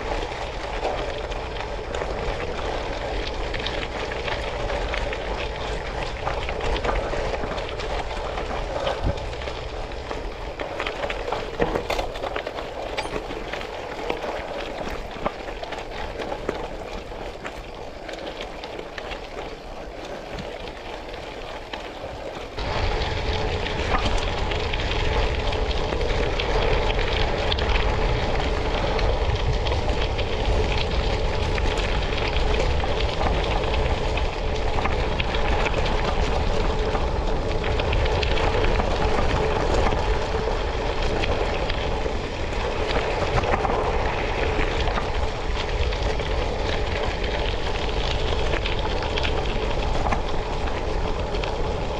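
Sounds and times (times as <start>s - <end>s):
tyres rolling over gravel: 0.0s - 51.9s.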